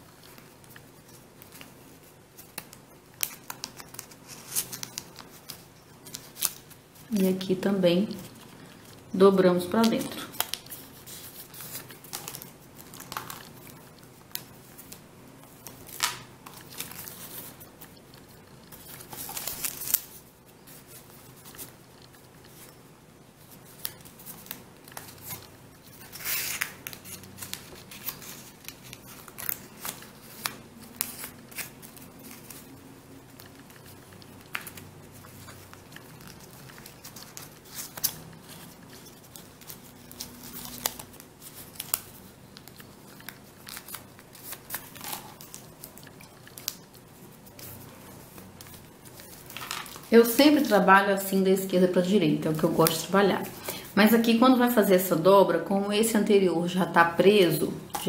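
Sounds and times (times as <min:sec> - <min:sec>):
paper creasing crackles: 0:00.0 - 0:22.8, 0:23.4 - 0:50.9
paper rustling and crinkling: 0:00.0 - 0:22.8, 0:23.4 - 0:50.8.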